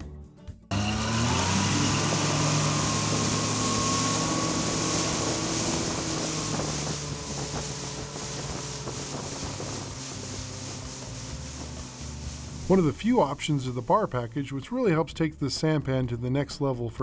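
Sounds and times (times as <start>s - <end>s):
outboard motor running: 0.7s - 15.1s
water rushing: 0.7s - 15.1s
wind: 0.7s - 16.1s.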